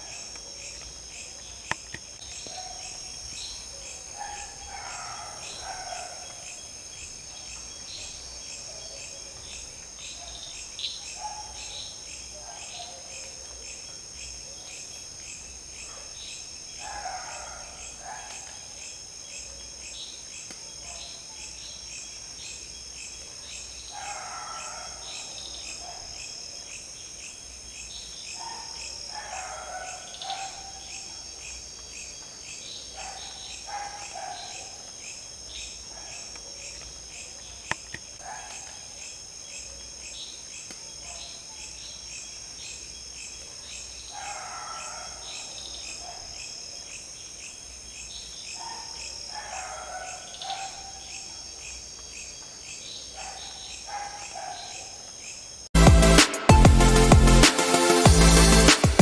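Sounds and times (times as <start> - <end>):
insects chorus: 0.0 - 55.7.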